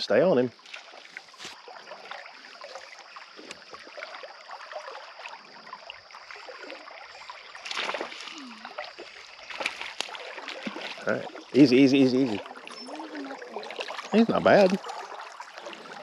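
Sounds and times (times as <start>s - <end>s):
creek water trickling and splashing: 0.0s - 16.0s.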